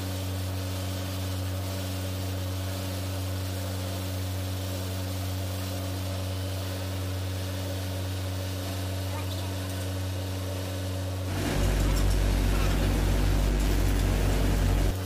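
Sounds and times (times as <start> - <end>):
low machinery drone: 0.0 - 15.0.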